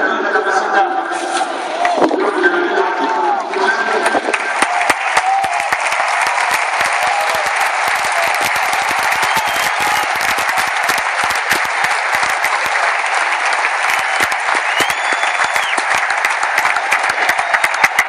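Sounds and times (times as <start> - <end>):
crowd applauding: 3.1 - 18.0.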